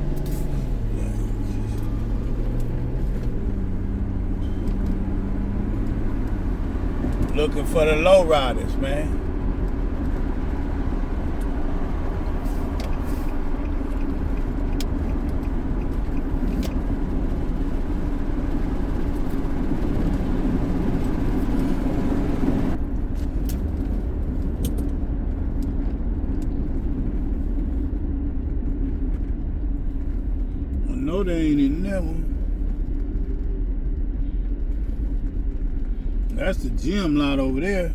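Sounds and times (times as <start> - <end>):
car interior driving rumble: 0.0 - 37.9.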